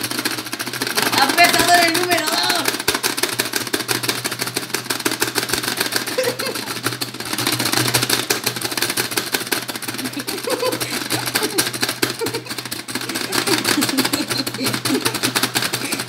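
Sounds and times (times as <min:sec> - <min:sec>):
plastic buttons slapped rapidly: 0:00.0 - 0:16.0.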